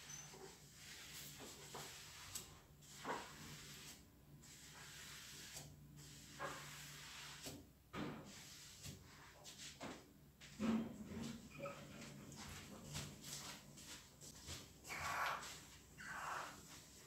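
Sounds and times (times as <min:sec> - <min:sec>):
cloth wiping a tabletop: 0:00.0 - 0:10.6, 0:11.2 - 0:17.0.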